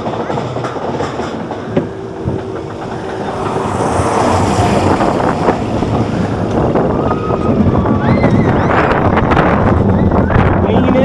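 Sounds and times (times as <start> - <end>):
roller coaster cars rattling: 0.0 - 11.0.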